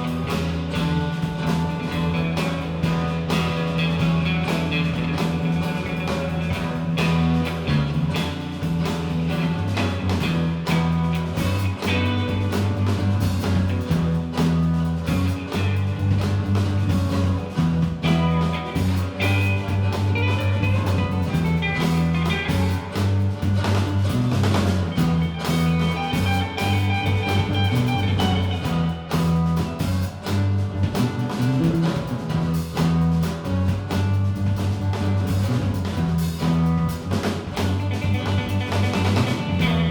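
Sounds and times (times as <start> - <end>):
band playing blues-rock jam: 0.0 - 39.9
repeating bass line: 0.0 - 39.9.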